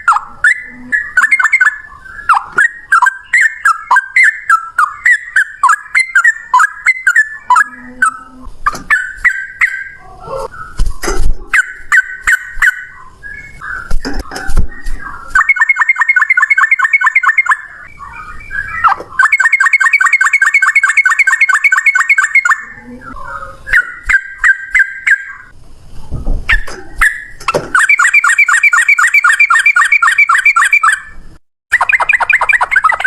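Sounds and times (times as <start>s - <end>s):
bird singing rattling trill: 0.0s - 10.8s, 11.5s - 25.6s, 26.5s - 33.0s
bird chattering calls: 0.0s - 25.6s, 26.5s - 33.0s.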